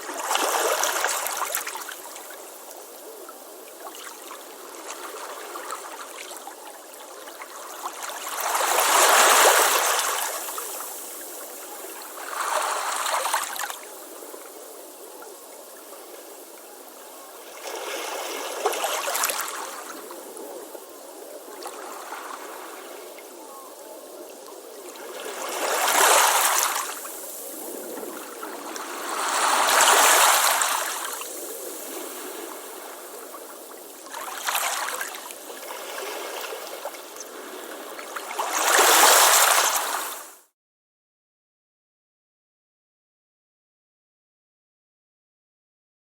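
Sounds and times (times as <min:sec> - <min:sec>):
surf hiss: 0:00.0 - 0:40.5.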